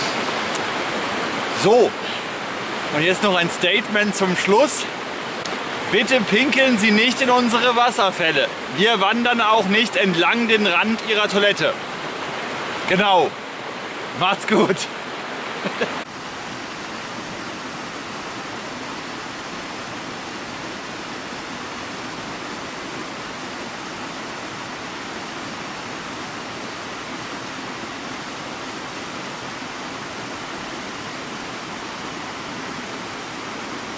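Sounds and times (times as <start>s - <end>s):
water rushing down waterfalls: 0.0s - 33.9s.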